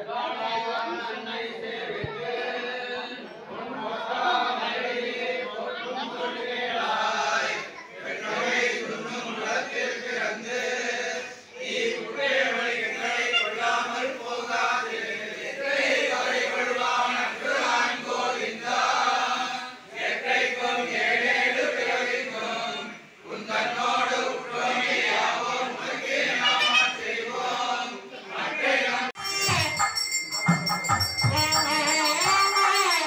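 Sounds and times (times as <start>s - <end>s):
men chanting together: 0.0s - 29.2s.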